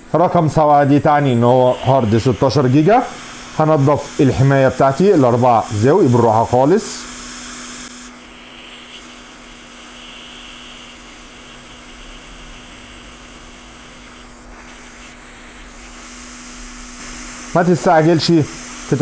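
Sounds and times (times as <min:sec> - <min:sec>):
hot air blower hissing: 0:00.0 - 0:19.0.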